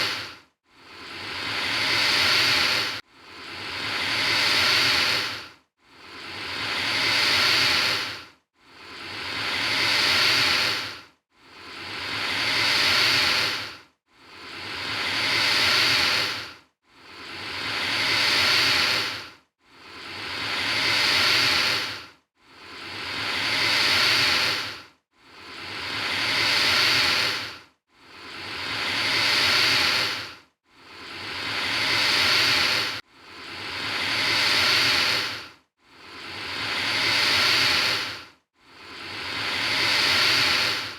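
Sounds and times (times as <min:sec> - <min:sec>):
alligator hissing: 0:00.0 - 0:00.3, 0:00.9 - 0:05.4, 0:06.1 - 0:08.2, 0:08.8 - 0:11.0, 0:11.7 - 0:13.7, 0:14.4 - 0:19.2, 0:20.0 - 0:22.0, 0:22.7 - 0:24.8, 0:25.4 - 0:27.5, 0:28.2 - 0:30.3, 0:30.9 - 0:35.5, 0:36.2 - 0:40.9.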